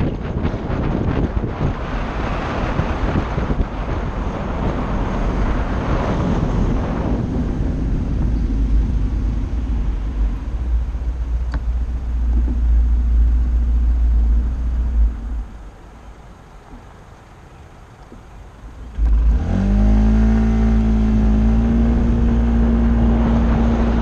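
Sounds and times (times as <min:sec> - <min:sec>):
wind rushing over microphone: 0:00.0 - 0:17.1, 0:18.1 - 0:24.0.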